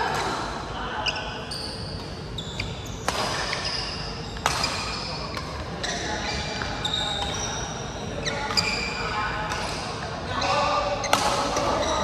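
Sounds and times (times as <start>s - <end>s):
shoes squeaking on court floor: 1.0s - 12.0s.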